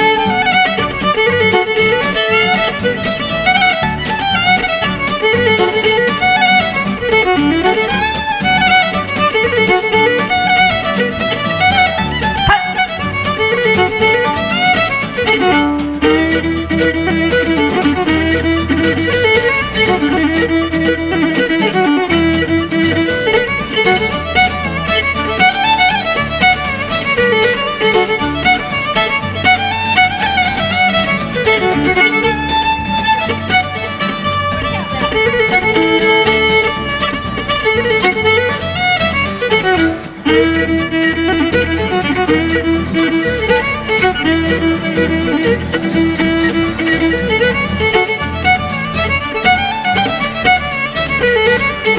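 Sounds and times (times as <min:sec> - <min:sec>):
fiddle playing a fast jig: 0:00.0 - 0:51.9.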